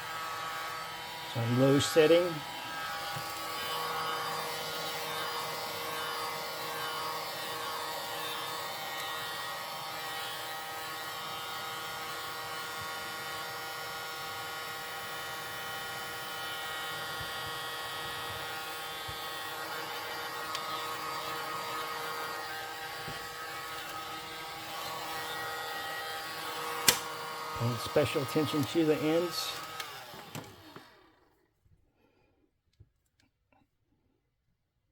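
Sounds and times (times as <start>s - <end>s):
heat gun fan whining: 0.0s - 31.3s.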